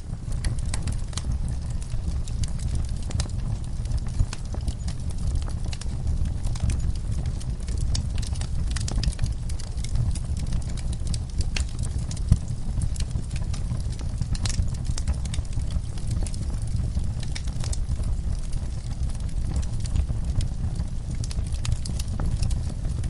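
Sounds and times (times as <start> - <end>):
low steady rumble: 0.0 - 23.0
wood fire crackling and popping: 0.0 - 23.0.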